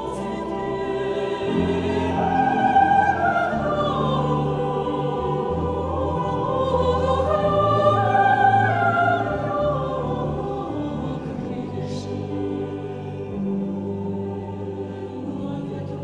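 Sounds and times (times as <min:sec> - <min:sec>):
mixed choir singing chords: 0:00.0 - 0:16.0.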